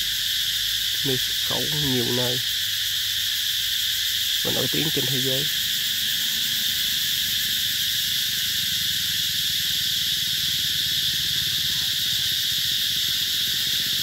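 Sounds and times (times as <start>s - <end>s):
cicadas chorus: 0.0s - 14.0s.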